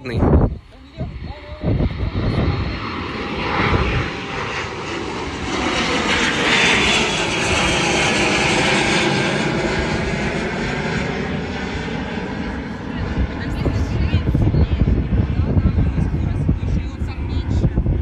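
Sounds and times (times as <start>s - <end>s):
jet engines passing by: 0.0s - 18.0s.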